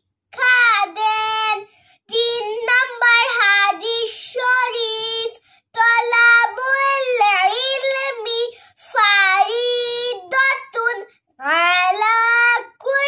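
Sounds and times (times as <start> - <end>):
girl singing in a high voice: 0.3 - 13.0.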